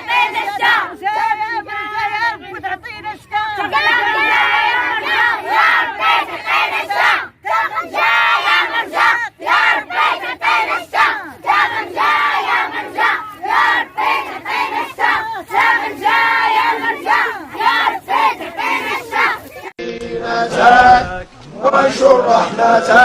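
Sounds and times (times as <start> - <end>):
crowd chanting: 0.0 - 23.0.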